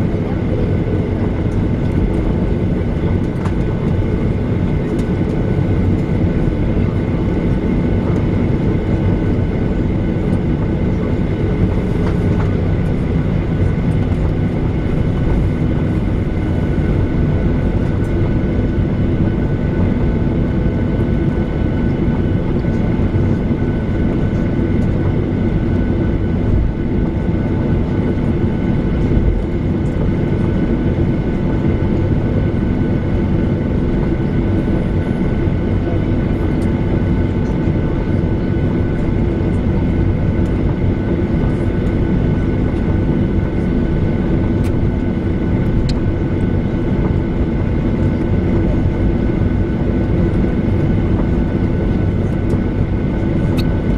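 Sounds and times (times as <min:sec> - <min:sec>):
jet engines rumbling: 0:00.0 - 0:53.9.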